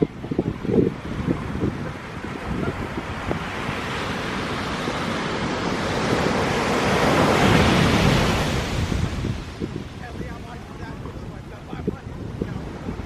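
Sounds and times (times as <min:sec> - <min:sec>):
ocean waves breaking: 0:00.0 - 0:13.0
wind buffeting microphone: 0:00.0 - 0:13.0.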